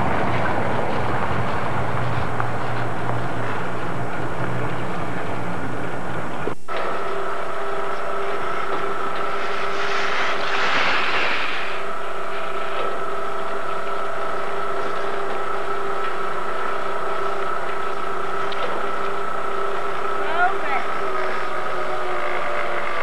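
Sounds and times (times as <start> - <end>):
rushing noise: 0.0 - 23.0
steady mechanical hum: 0.0 - 23.0.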